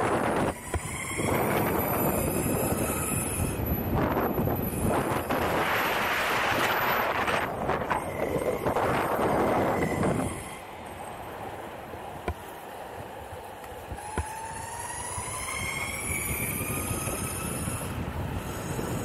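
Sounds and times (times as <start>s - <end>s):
electric motors whining: 0.0s - 11.0s, 13.7s - 19.0s
wheel and wind noise: 0.0s - 19.0s
wind buffeting: 0.0s - 19.0s.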